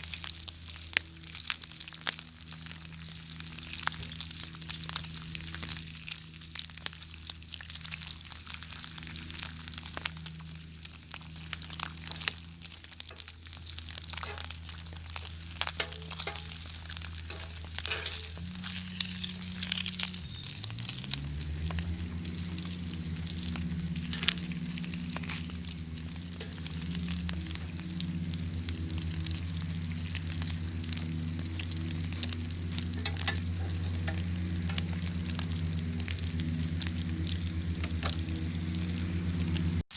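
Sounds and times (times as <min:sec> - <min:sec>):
bacon sizzling in a pan: 0:00.0 - 0:39.9
crackling fire: 0:00.0 - 0:39.9
steady low hum: 0:00.0 - 0:39.9.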